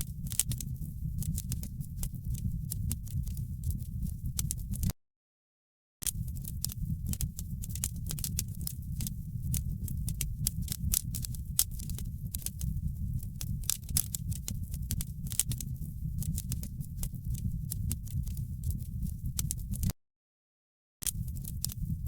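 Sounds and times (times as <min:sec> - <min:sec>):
fire crackling in fireplace: 0:00.0 - 0:04.9, 0:06.0 - 0:19.9, 0:21.1 - 0:22.0.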